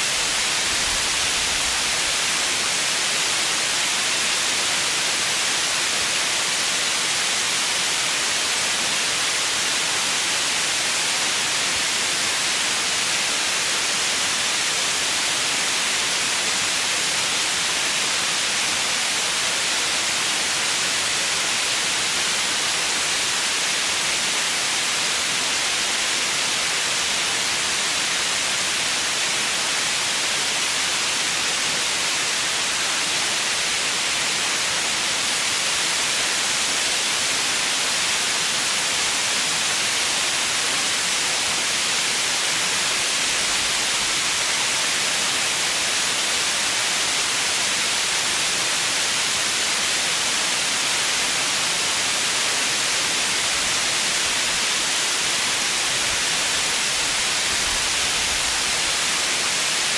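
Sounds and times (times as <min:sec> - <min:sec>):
steady white noise: 0:00.0 - 0:59.9.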